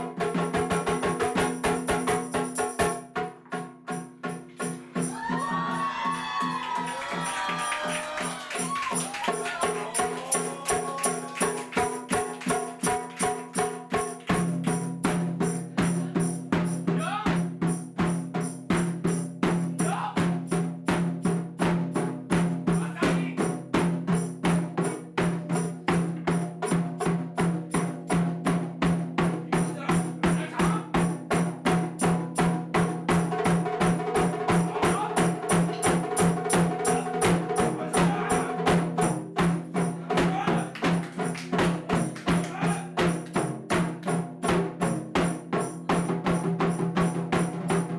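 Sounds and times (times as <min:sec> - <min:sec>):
taiko drums playing: 0:00.0 - 0:47.9.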